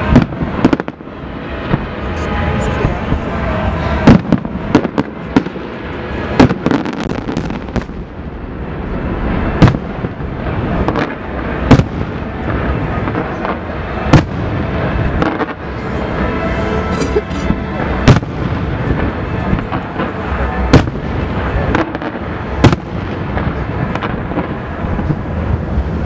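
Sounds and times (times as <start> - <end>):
distant fireworks rumble and crackle: 0.0 - 26.0
fireworks bangs: 0.0 - 26.0.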